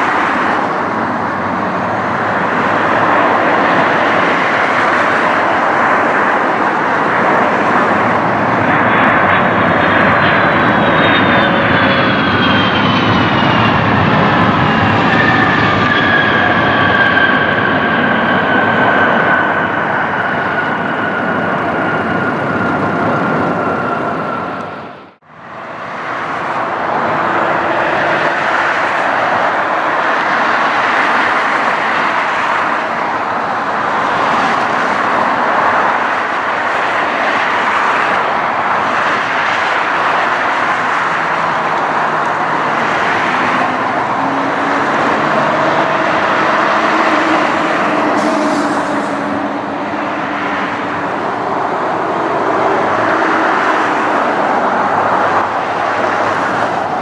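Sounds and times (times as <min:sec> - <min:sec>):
jet engine roar with falling whine: 0:00.0 - 0:57.0
steady jet roar: 0:00.0 - 0:57.0.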